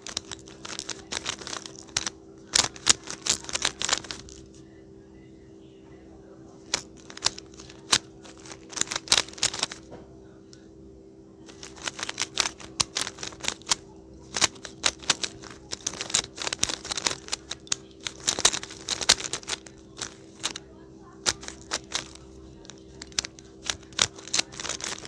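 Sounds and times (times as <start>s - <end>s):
rubik's cube clicking: 0.0s - 4.5s, 6.6s - 9.9s, 11.5s - 20.6s, 21.2s - 25.0s.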